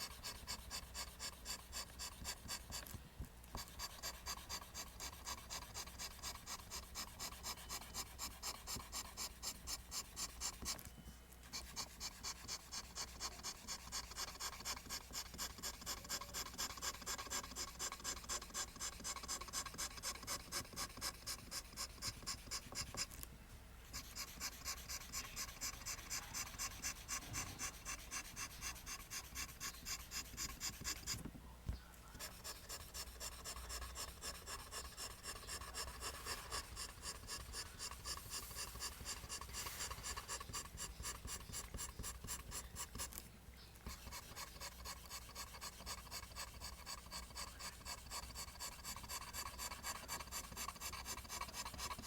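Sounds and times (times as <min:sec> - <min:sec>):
pencil scratching on paper: 0:00.0 - 0:10.8, 0:11.5 - 0:23.2, 0:23.9 - 0:31.2, 0:32.1 - 0:43.2, 0:43.9 - 0:52.0.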